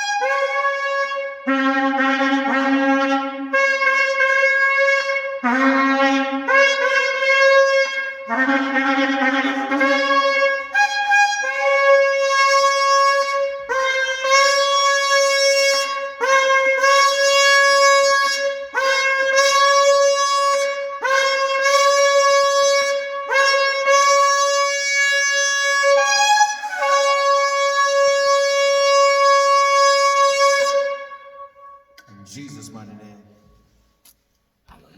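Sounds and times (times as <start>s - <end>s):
horn blasts: 0.0s - 33.8s.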